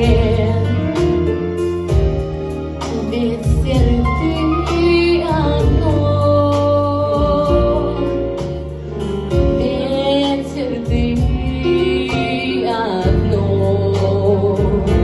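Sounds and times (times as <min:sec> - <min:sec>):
woman singing: 0:00.0 - 0:01.2, 0:02.9 - 0:08.4, 0:09.5 - 0:15.0
backing track with bass and guitar: 0:00.0 - 0:15.0.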